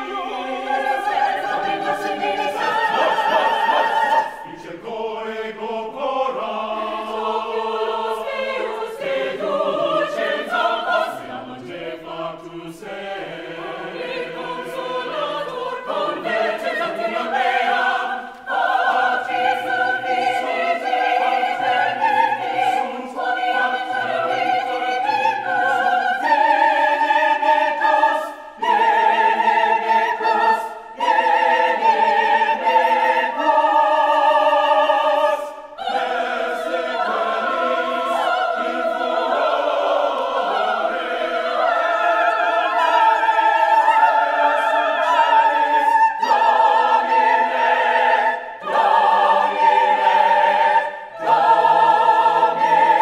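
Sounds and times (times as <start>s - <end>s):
chamber choir singing unaccompanied: 0.0s - 53.0s.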